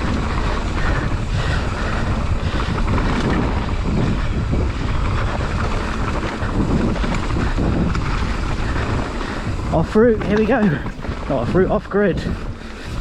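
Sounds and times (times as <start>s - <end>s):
mountain bike rattling on dirt trail: 0.0s - 13.0s
wind on microphone: 0.0s - 13.0s.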